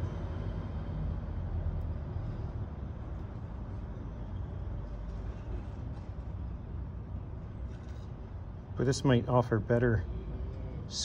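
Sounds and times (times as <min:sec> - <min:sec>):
urban street traffic rumble: 0:00.0 - 0:11.0.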